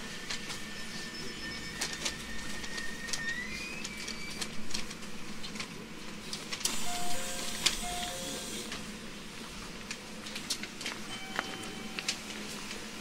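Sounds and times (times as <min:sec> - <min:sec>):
train rumble and clicks: 0:00.0 - 0:13.0.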